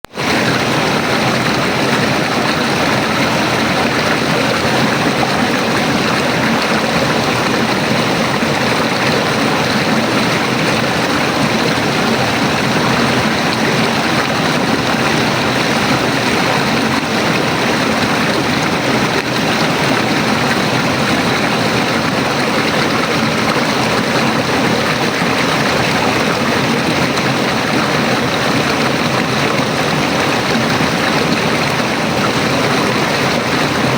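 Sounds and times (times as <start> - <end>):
river water rushing over stones: 0.1 - 33.9.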